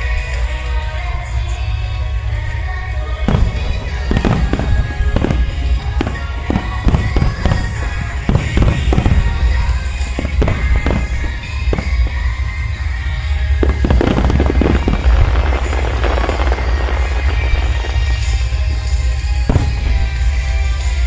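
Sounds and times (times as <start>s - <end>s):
fireworks bangs: 0.0s - 21.0s
loud music: 0.0s - 21.0s.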